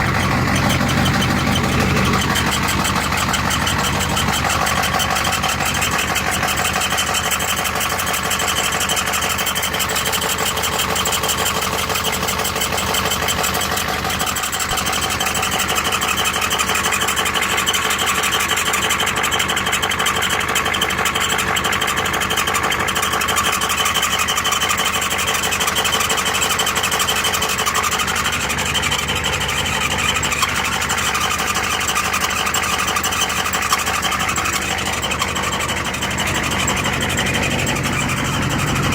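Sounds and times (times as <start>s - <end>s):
diesel engine running: 0.0s - 38.9s
high-pitched transmission squeal: 0.0s - 38.9s.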